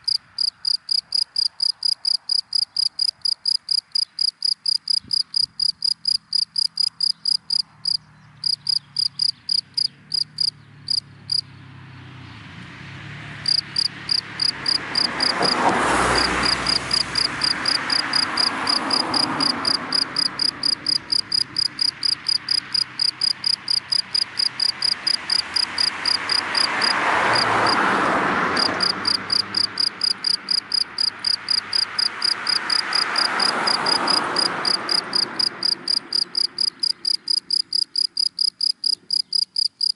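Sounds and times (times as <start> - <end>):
cricket chirping: 0.0 - 11.4, 13.4 - 27.8, 28.6 - 39.9
cars passing by: 0.0 - 39.9.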